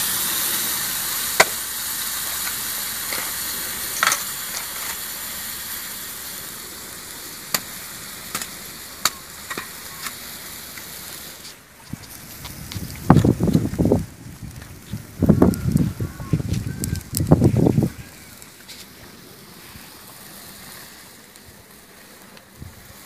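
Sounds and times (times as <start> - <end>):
chicken sizzling in a wok: 0.0 - 23.0.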